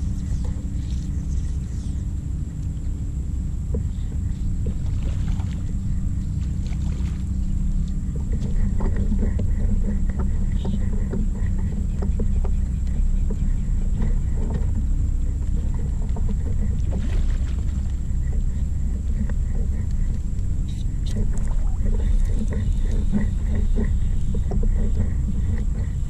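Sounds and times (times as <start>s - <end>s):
faint high whine: 0.0s - 26.0s
low rumble and hum: 0.0s - 26.0s.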